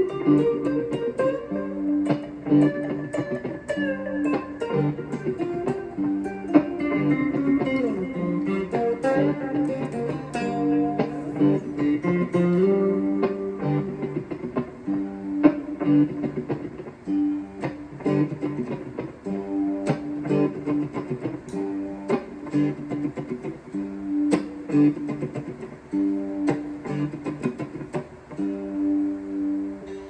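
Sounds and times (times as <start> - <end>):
guitar plucked and strummed: 0.0 - 30.0.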